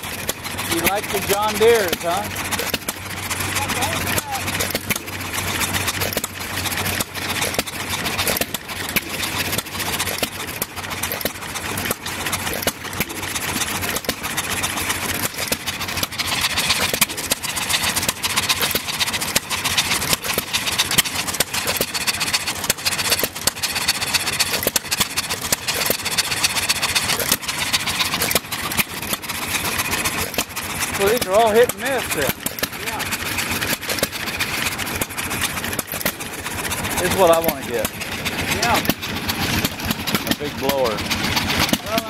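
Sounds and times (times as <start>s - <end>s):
hit-and-miss engines clattering: 0.0s - 42.0s.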